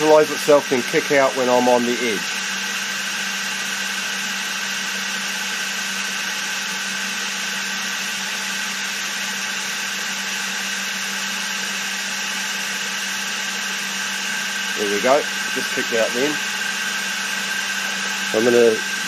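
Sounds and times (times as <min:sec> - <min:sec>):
milling machine spindle hum and whine: 0:00.0 - 0:19.0.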